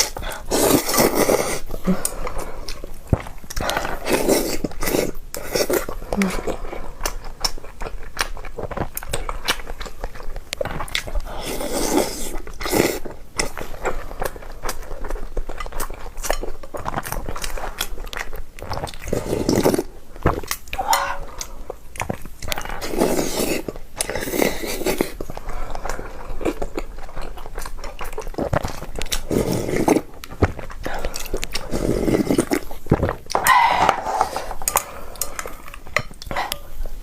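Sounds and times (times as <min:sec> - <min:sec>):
chewing and mouth sounds: 0:00.0 - 0:37.0.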